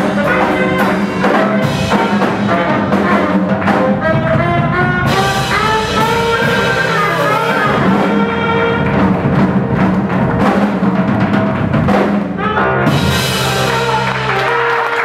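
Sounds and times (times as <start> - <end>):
sustained horn notes: 0.0 - 9.9, 12.4 - 15.0
busy drumming: 0.0 - 15.0
live swing band playing: 0.0 - 15.0.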